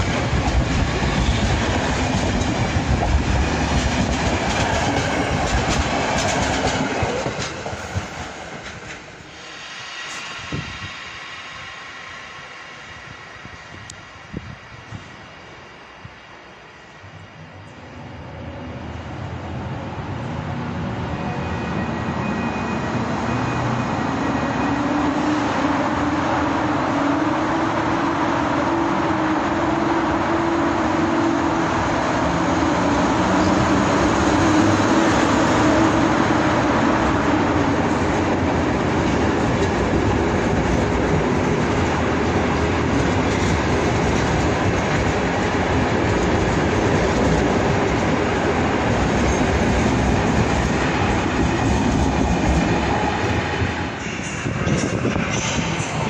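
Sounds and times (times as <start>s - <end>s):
train wheels rumbling and clacking: 0.0s - 16.3s, 20.2s - 56.0s.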